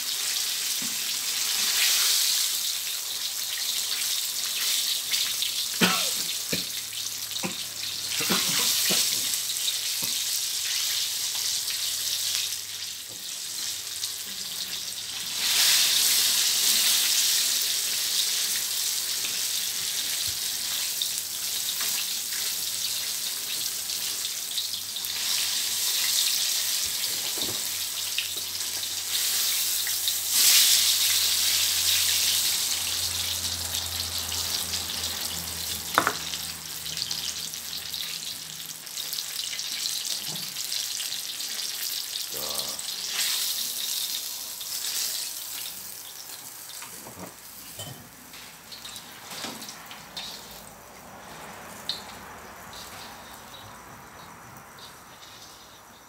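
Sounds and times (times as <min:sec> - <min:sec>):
deep-frying sizzling hiss: 0:00.0 - 0:56.0.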